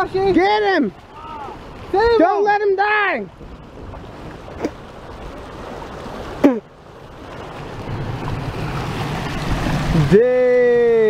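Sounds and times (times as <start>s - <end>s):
rushing floodwater: 0.0s - 11.0s.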